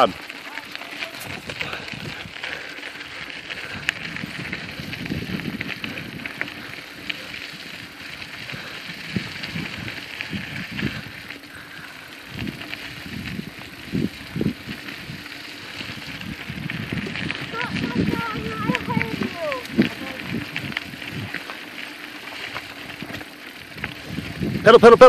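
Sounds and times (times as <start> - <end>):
bicycle tyres crunching on gravel: 0.0 - 25.0
bikes knocking and rattling: 0.0 - 25.0.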